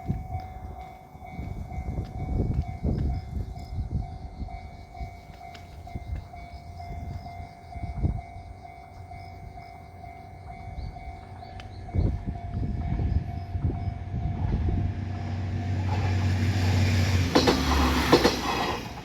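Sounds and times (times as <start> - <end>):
level crossing warning bell: 0.0 - 17.6.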